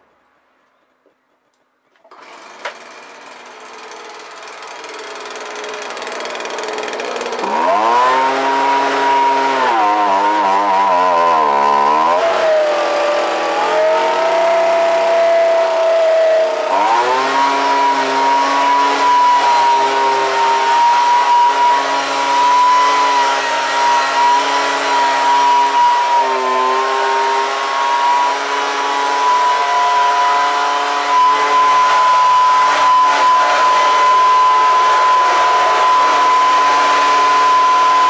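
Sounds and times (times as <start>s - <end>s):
leaf blower whining: 2.0s - 38.0s.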